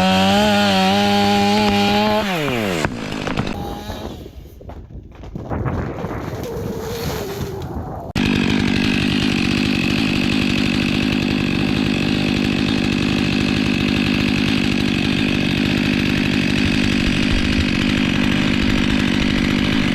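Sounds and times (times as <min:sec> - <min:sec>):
chainsaw engine running: 0:00.0 - 0:04.6, 0:08.2 - 0:19.9.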